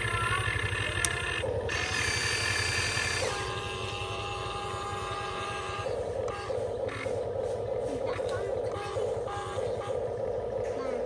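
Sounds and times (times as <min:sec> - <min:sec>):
toy excavator motors whining: 0:00.0 - 0:11.0.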